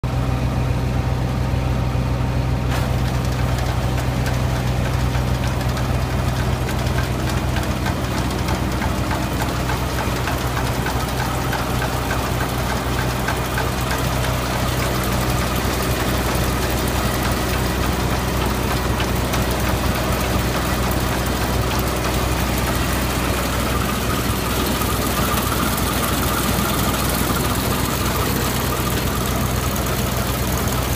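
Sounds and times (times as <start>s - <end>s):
combine harvester engine running: 0.0s - 30.9s
mechanical clatter: 2.7s - 30.9s.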